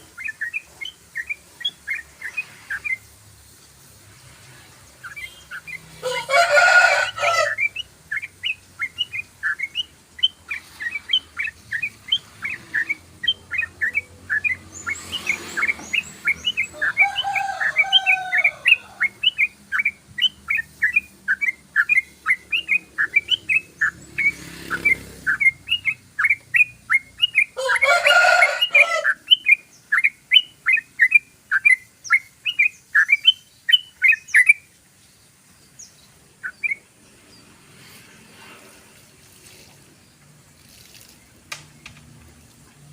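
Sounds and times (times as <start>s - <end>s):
bird high rapid chirps: 0.0s - 3.6s, 4.5s - 38.8s.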